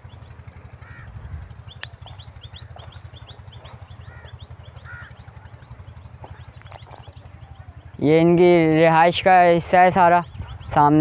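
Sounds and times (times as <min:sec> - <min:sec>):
low fast-pulsing hum: 0:00.0 - 0:11.0
small birds chirping: 0:00.0 - 0:11.0.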